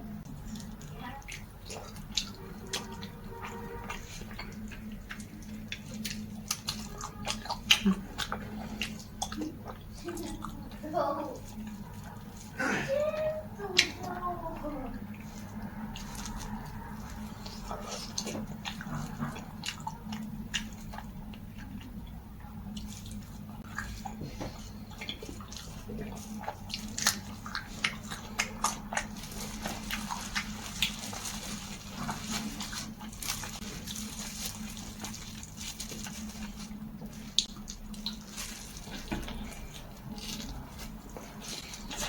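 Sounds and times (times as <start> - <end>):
person chewing food: 0.0 - 42.0
steady low hum: 0.0 - 42.0.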